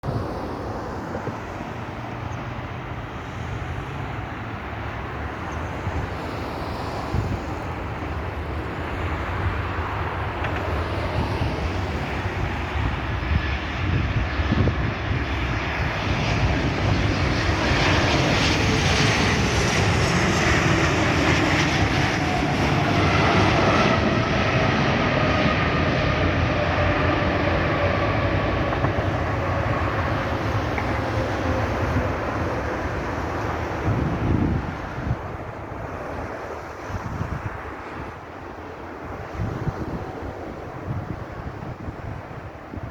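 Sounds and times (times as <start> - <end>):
jet airliner engine noise: 0.0 - 42.9.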